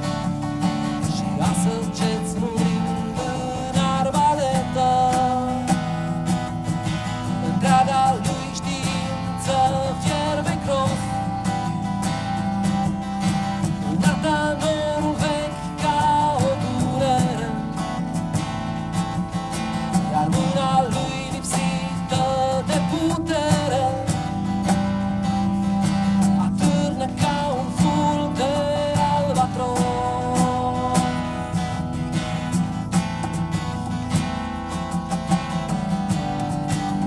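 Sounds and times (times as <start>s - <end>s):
acoustic guitar strumming chords: 0.0s - 37.0s
picked guitar melody: 0.0s - 37.0s.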